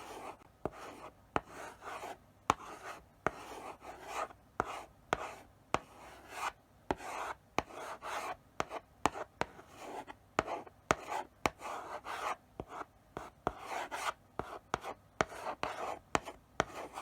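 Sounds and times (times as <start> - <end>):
chalk tapping on board: 2.5 - 17.0.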